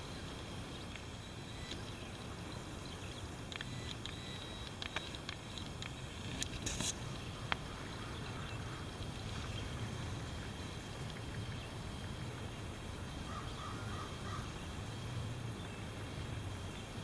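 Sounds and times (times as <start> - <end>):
steady low rumble: 0.0 - 17.0
faint chirps and clicks: 0.3 - 17.0.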